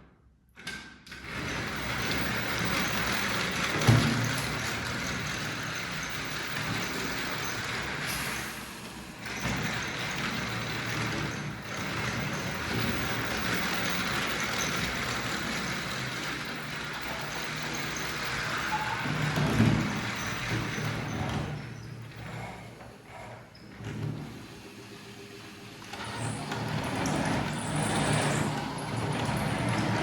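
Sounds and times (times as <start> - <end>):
toy train whirring and rattling: 1.3 - 23.1, 25.8 - 30.0.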